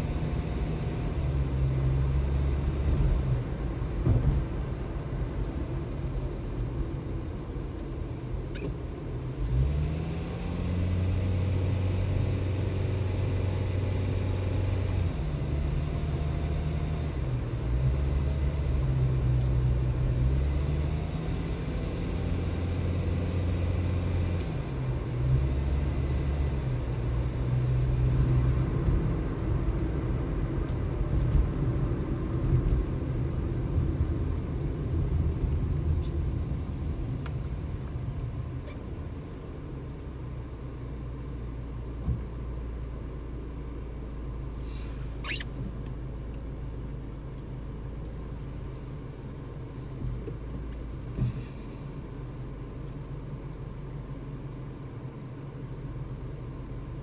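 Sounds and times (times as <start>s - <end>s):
road noise: 0.0s - 57.0s
vehicle engine: 0.0s - 57.0s.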